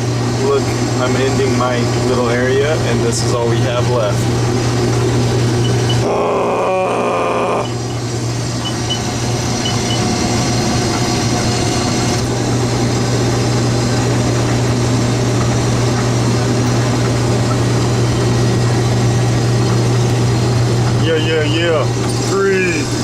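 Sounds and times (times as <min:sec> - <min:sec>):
combine harvester engine drone: 0:00.0 - 0:23.0
machinery noise: 0:00.0 - 0:23.0.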